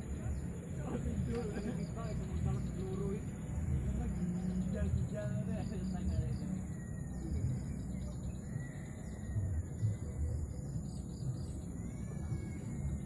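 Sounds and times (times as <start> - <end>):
birds chirping: 0.0 - 13.0
low steady rumble: 0.0 - 13.0.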